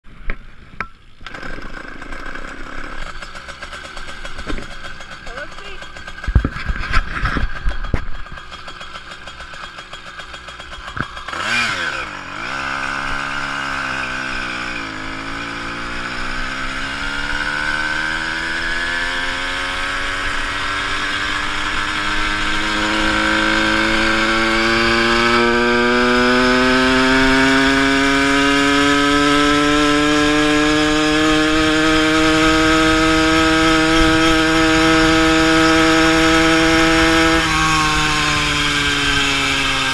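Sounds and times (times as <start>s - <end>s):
small bicycle engine running: 1.3s - 39.9s.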